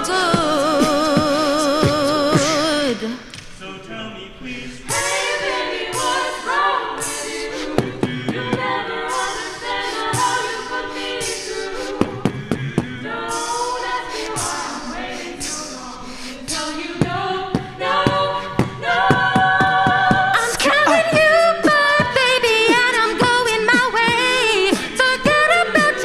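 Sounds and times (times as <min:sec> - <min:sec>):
ensemble singing backing harmonies: 0:00.0 - 0:26.0.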